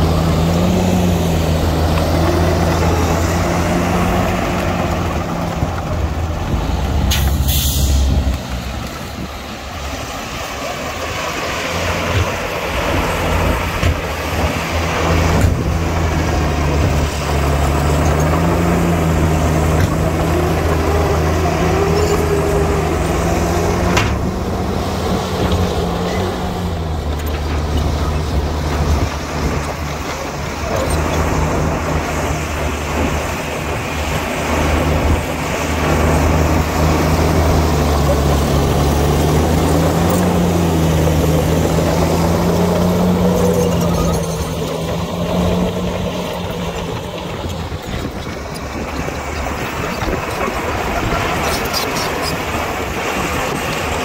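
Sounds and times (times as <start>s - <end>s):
heavy diesel engine droning: 0.0s - 54.0s.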